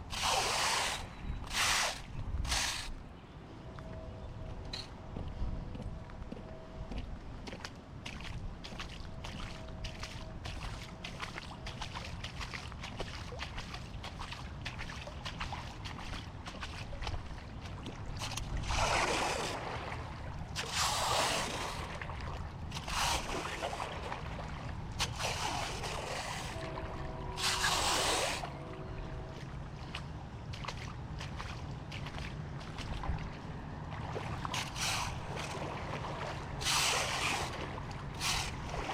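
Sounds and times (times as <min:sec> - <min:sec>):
rushing splashing water: 0:00.0 - 0:02.9, 0:08.8 - 0:38.9
low rumble of moving water: 0:00.0 - 0:38.9.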